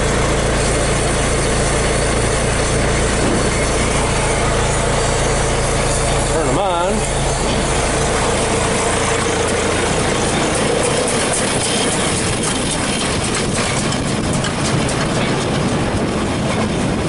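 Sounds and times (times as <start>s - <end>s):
baler belts and rollers turning: 0.0s - 17.0s
tractor engine running: 0.0s - 17.0s.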